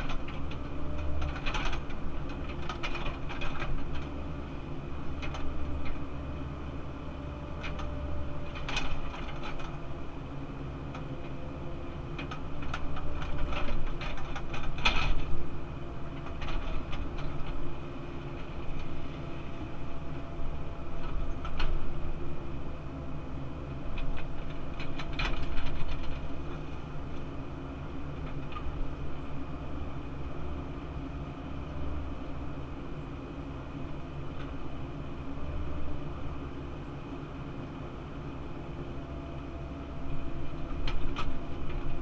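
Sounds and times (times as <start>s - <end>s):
excavator diesel rumble: 0.0s - 42.0s.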